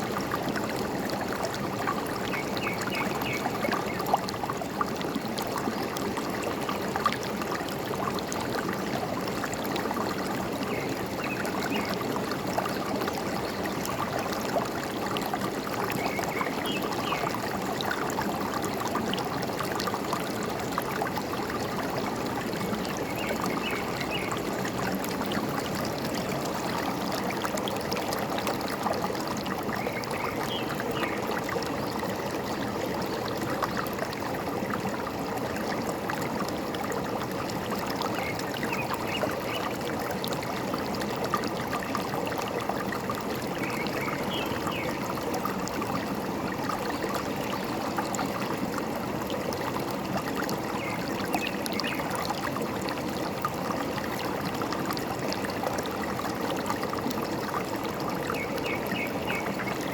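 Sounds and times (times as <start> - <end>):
stream trickling and gurgling: 0.0 - 59.9.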